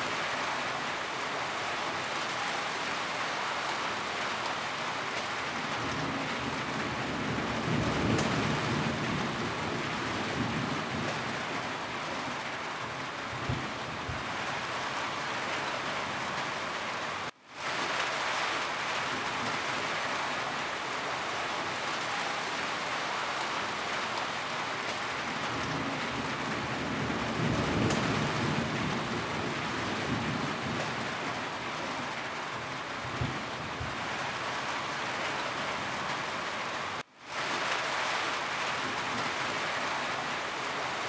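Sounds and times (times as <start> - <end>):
rain on a roof: 0.0 - 41.0.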